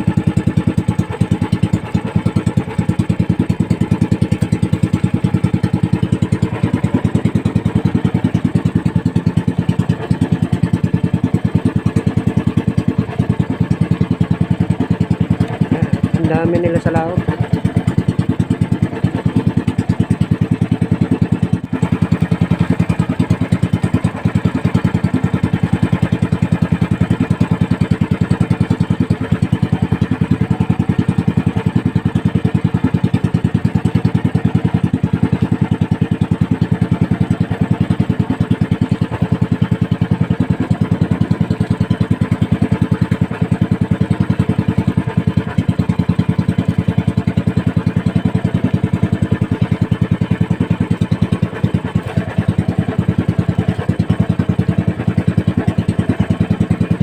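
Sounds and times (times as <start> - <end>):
boat engine puttering: 0.0 - 57.0.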